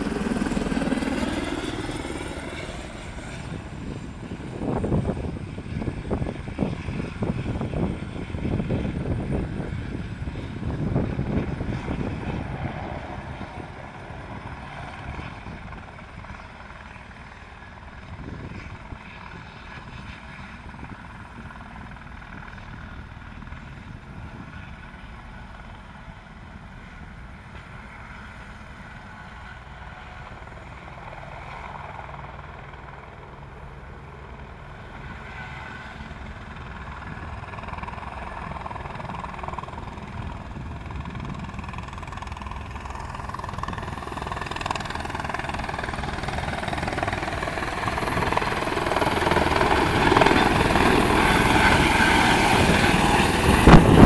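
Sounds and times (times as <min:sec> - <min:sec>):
distant helicopter hum: 0:00.0 - 0:54.0.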